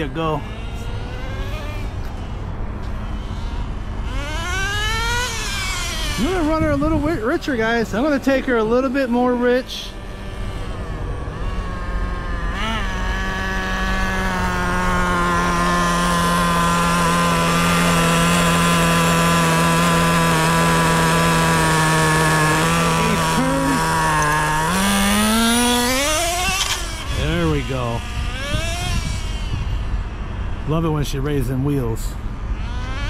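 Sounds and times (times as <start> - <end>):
small nitro engine revving: 0.0 - 33.0.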